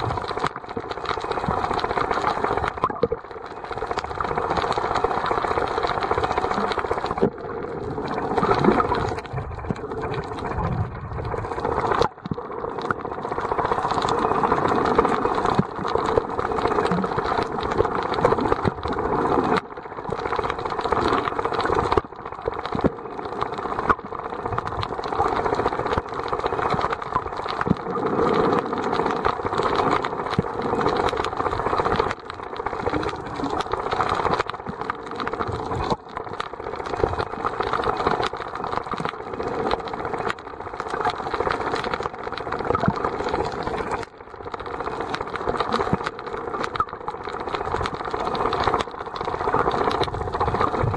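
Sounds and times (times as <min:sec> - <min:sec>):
faint irregular ticks: 0:00.0 - 0:50.9
underwater hum and rush: 0:00.0 - 0:50.9.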